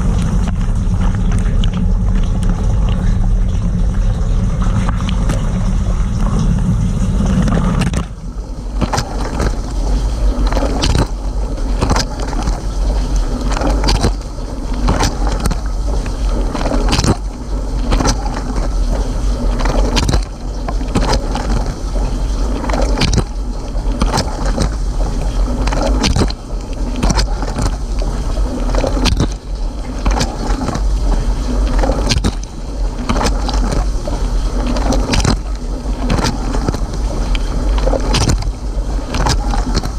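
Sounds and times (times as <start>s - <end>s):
dishwasher pump hum: 0.0s - 39.9s
water spraying in dishwasher: 6.2s - 39.9s.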